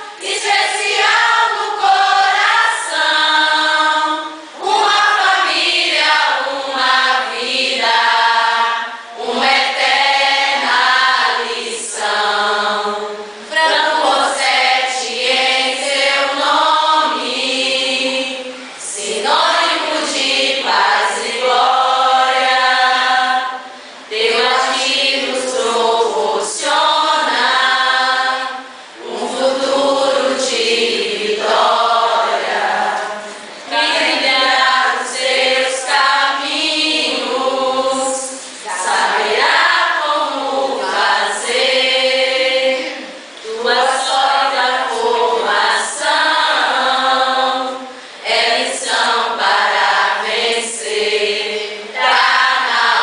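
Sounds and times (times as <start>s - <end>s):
choir of mostly female voices singing: 0.0s - 53.0s.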